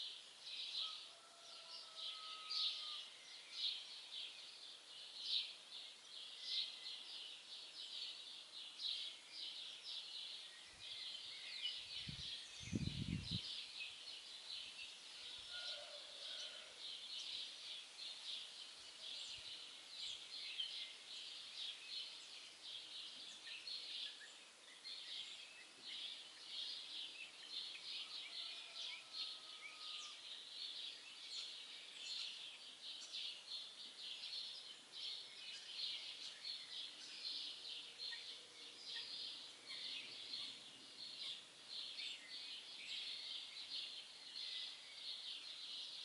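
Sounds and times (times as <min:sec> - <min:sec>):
small birds chirping chorus: 0:00.0 - 0:46.0.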